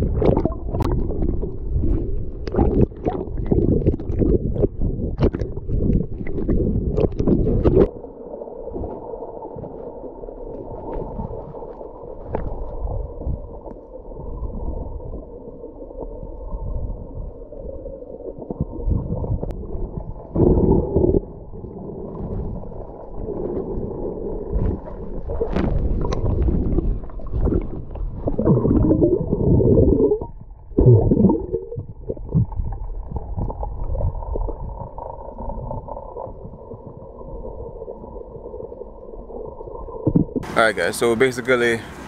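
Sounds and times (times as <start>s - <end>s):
muffled underwater rumble: 0.0s - 42.0s.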